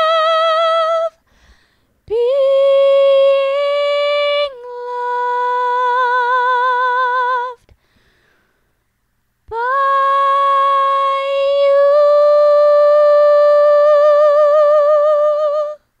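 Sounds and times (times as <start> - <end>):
woman singing with vibrato: 0.0 - 1.3, 2.0 - 7.7, 9.4 - 16.0.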